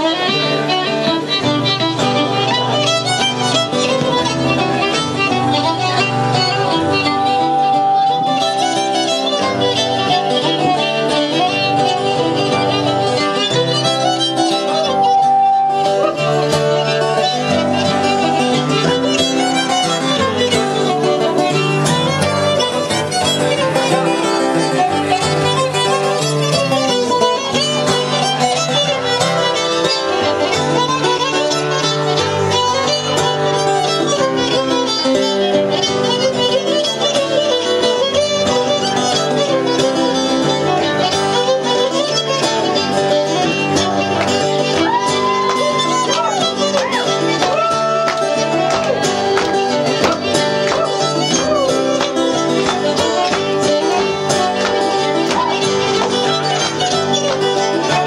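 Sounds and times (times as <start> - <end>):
fiddle playing a tune: 0.0 - 58.0
guitar accompaniment: 0.0 - 58.0.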